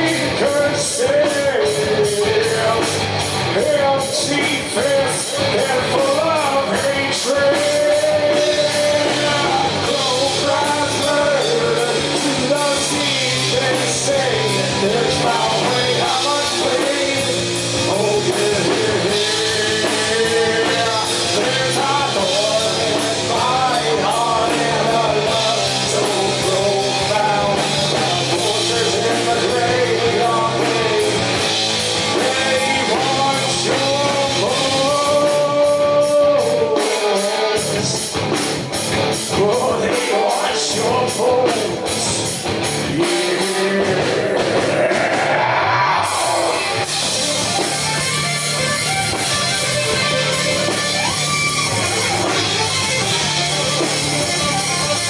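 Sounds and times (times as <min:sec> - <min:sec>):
person singing: 0:00.0 - 0:38.2, 0:39.2 - 0:55.0
bass guitar: 0:00.0 - 0:55.0
electric guitars: 0:00.0 - 0:55.0.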